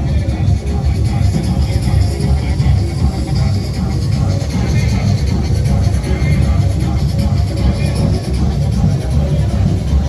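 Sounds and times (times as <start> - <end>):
loud dance music with heavy bass: 0.0 - 10.0.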